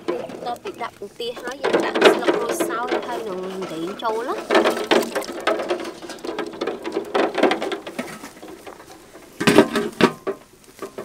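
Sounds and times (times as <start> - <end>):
eggs clicking in a pot: 0.0 - 9.1.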